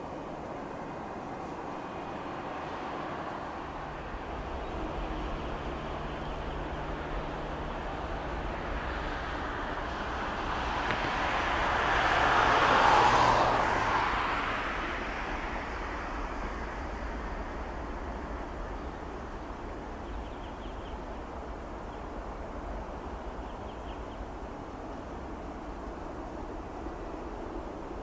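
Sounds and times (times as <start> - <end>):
jet engines at takeoff power: 0.0 - 28.0.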